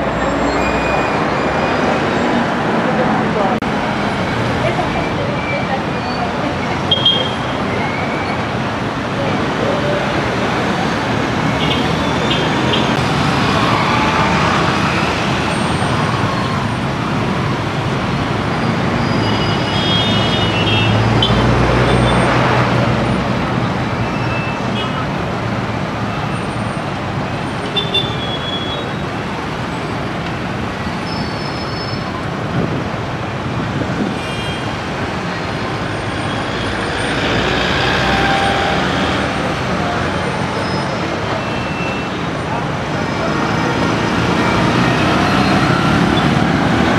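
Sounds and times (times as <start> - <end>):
steady road noise: 0.0 - 46.9.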